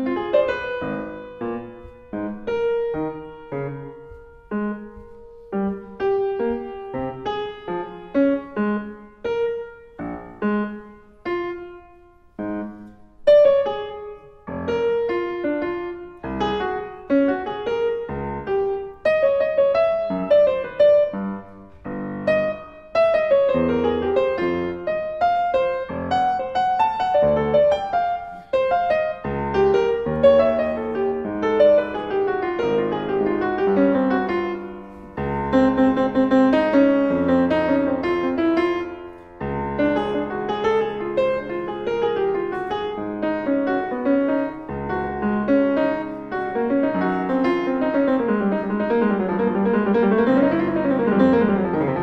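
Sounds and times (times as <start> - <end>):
solo piano piece: 0.0 - 52.0.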